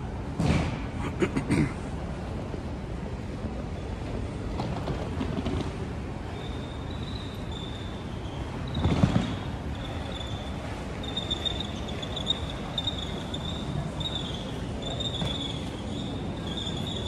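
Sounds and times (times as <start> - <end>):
station concourse hum and hiss: 0.0 - 17.0.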